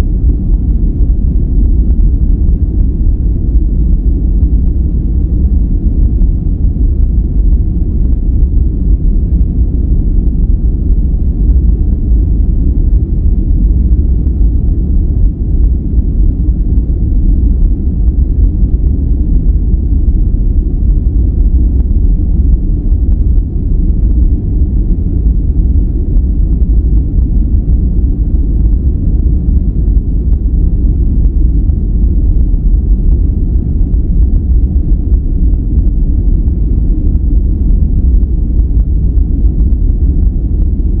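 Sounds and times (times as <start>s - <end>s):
deep rumbling brown noise: 0.0s - 41.0s.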